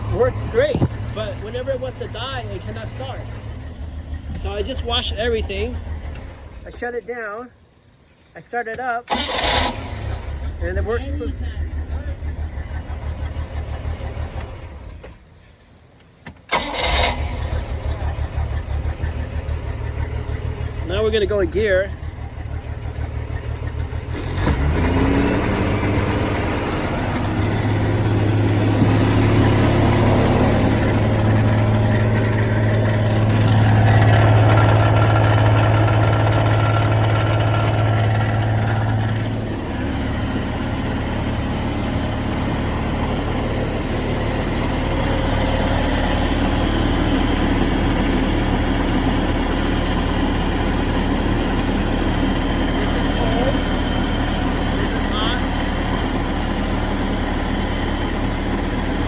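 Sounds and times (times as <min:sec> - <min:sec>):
boat engine running: 0:00.0 - 0:07.0, 0:09.1 - 0:15.3, 0:16.5 - 0:59.0.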